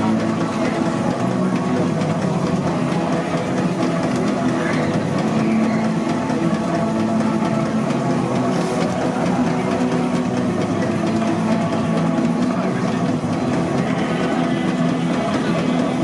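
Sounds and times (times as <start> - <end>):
steam engine droning hum: 0.0 - 16.0.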